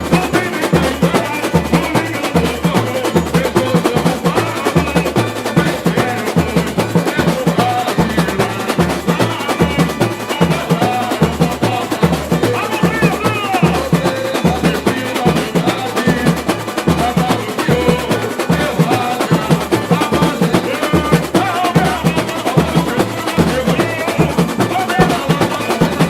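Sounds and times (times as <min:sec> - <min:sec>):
samba percussion music: 0:00.0 - 0:26.0.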